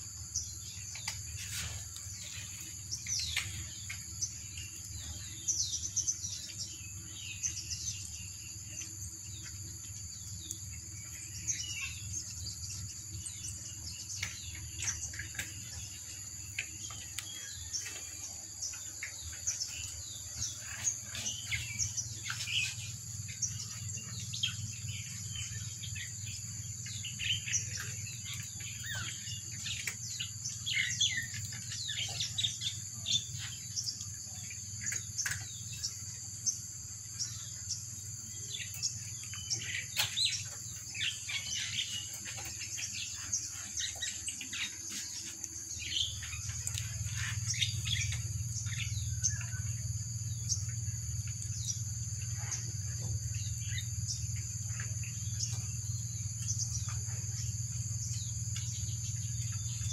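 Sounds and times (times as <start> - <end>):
insects droning: 0.0 - 59.9
small birds chirping: 0.0 - 59.9.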